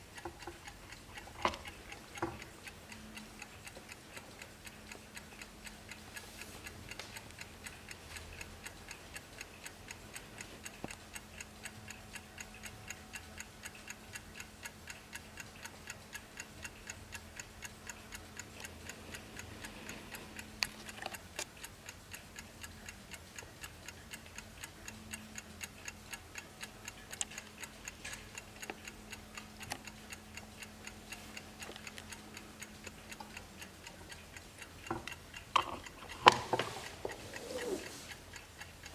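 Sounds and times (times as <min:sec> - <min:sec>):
wall clock ticking: 0:00.0 - 0:38.9.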